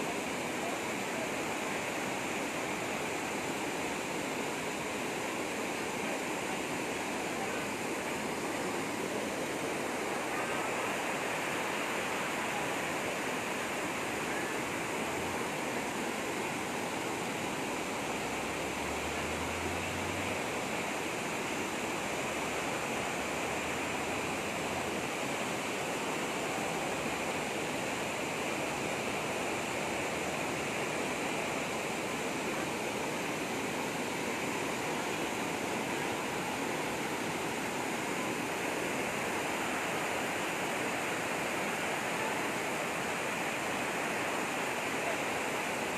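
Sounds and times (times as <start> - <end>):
fast-flowing water rushing: 0.0 - 45.9.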